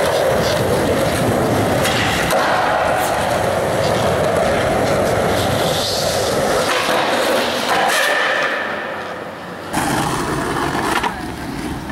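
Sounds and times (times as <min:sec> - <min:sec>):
skateboard wheels rolling on concrete: 0:00.0 - 0:11.9.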